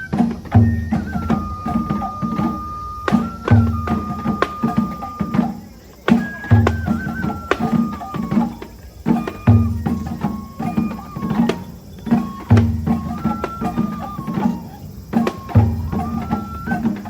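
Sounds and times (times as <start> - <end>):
bamboo flute long notes: 0.0 - 17.0
taiko drum strokes: 0.0 - 17.0.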